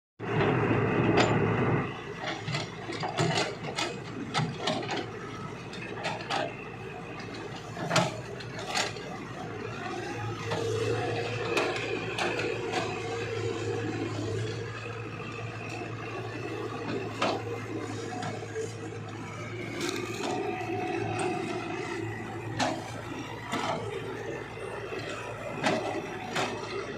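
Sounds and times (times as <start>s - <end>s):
excavator metallic clanks: 0.3s - 26.9s.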